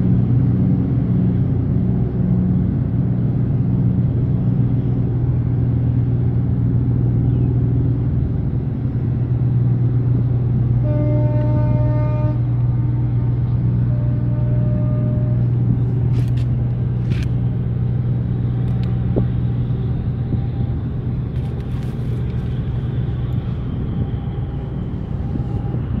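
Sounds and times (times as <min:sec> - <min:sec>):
low engine drone: 0:00.0 - 0:26.0.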